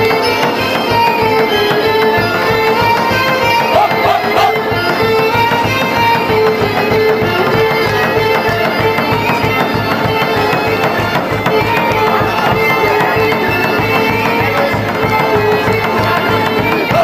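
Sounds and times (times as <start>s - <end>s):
folk dance music: 0.0s - 17.0s
steady drum beat: 0.0s - 17.0s.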